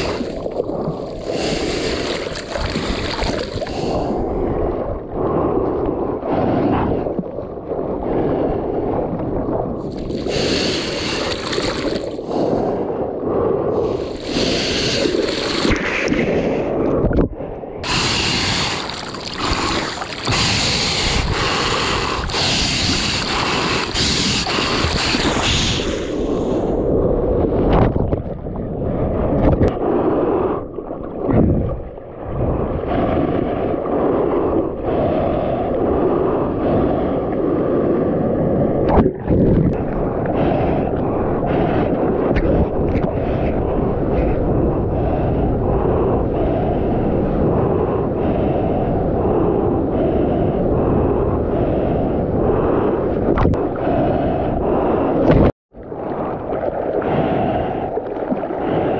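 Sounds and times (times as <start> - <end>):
seawater rushing and splashing: 0.0 - 45.2, 52.5 - 58.9.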